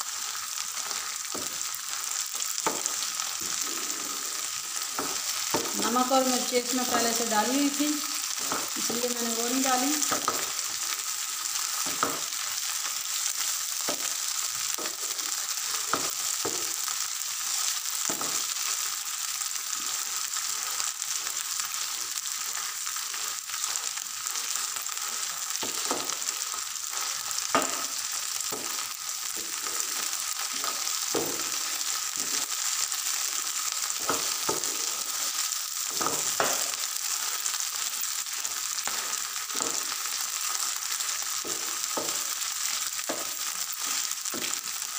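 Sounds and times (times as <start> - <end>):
greens sizzling in frying pan: 0.0 - 44.9.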